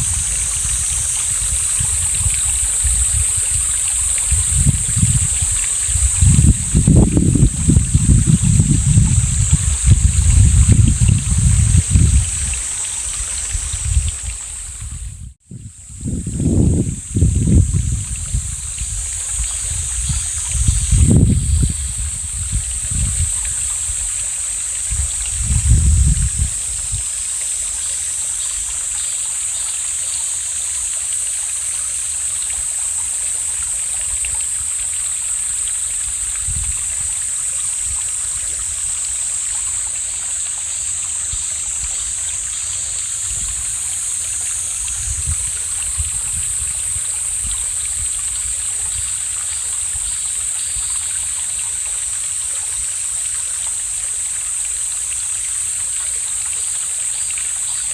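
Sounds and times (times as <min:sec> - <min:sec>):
stream water rushing: 0:00.0 - 0:15.3, 0:16.0 - 0:57.9.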